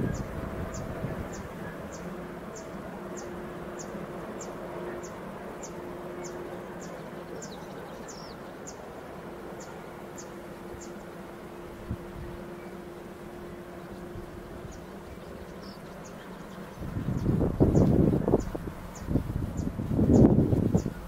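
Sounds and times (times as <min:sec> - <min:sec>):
distant freight train rumble: 0:00.0 - 0:21.0
faint diesel locomotive hum: 0:00.0 - 0:21.0.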